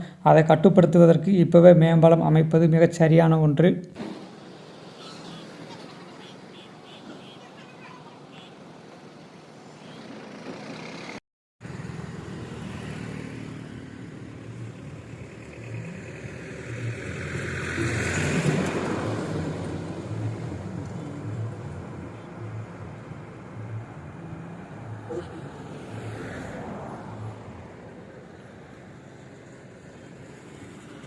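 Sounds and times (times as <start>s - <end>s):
highway traffic: 0.0s - 31.0s
vehicle passing close: 4.0s - 31.0s.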